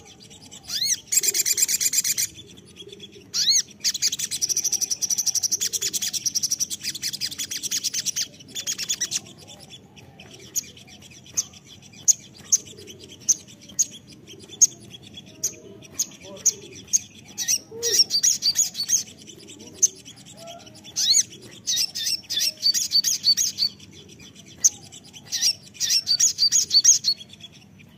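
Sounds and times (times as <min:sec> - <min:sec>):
bird sharp chips: 0:00.0 - 0:27.9
bird singing high trills: 0:00.0 - 0:27.9.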